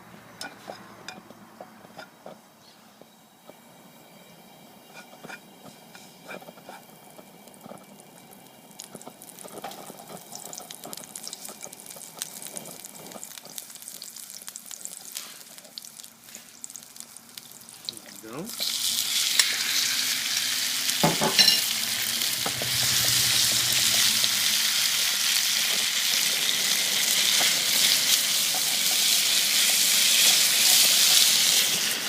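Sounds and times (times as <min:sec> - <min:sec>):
hot oil crackling in a wok: 0:01.6 - 0:32.0.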